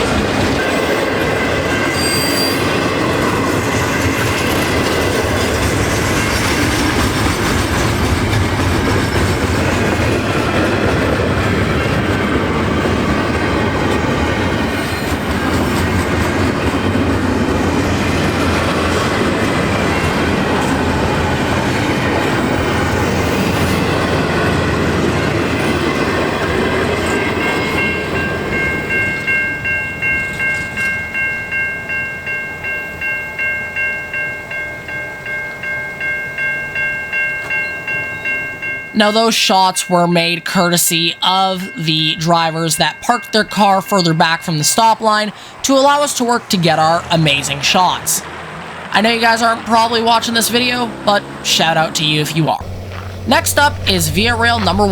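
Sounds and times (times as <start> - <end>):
freight train wheels rumbling: 0.0 - 33.5, 34.1 - 54.9
crossing bell ringing: 0.0 - 54.9.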